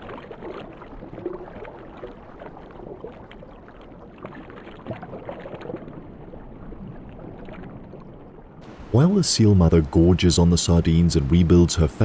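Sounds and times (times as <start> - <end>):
water rushing and bubbling: 0.0 - 12.0.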